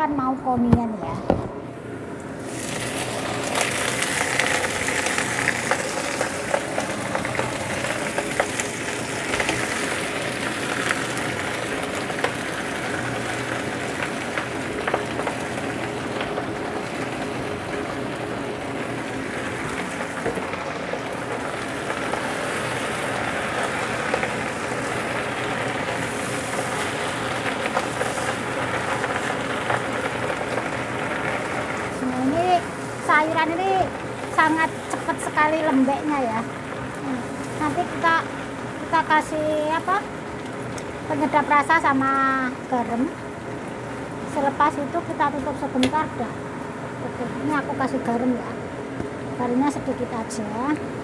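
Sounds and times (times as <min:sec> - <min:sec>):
greens sizzling in a wok: 0:02.3 - 0:51.0
oil spatters popping: 0:02.4 - 0:44.4
spatula turning vegetables: 0:02.4 - 0:46.0.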